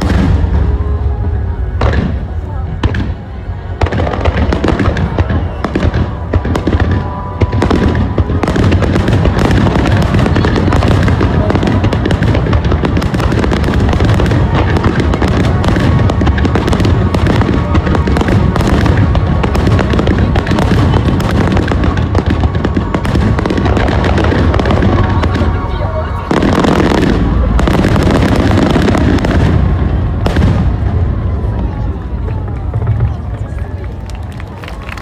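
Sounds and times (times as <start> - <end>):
music: 0.0 - 28.3
fireworks booming: 0.0 - 34.4.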